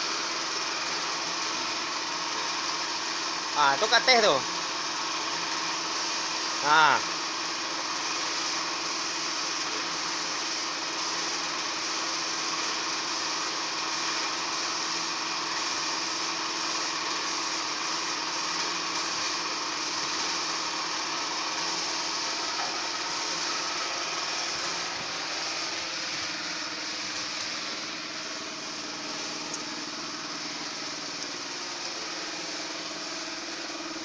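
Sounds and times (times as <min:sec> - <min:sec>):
machine hiss: 0:00.0 - 0:34.0.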